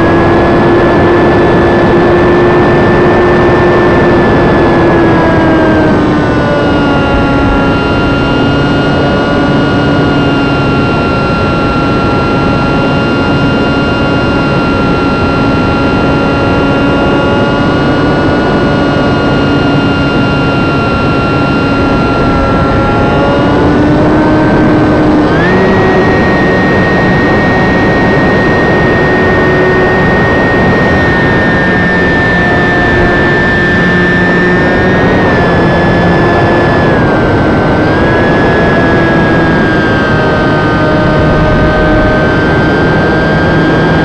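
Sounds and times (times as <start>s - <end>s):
electric motor and propeller whining: 0.0s - 44.0s
wind noise on microphone: 0.0s - 44.0s.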